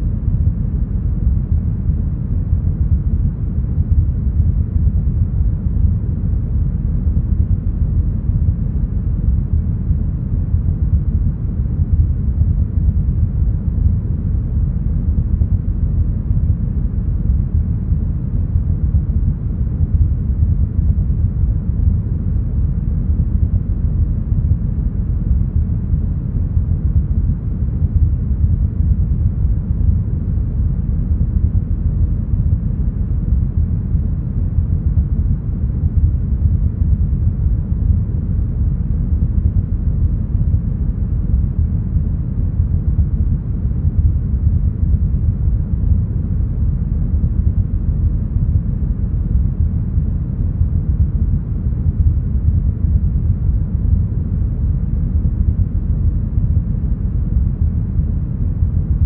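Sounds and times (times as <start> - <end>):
deep brown noise: 0.0 - 59.0.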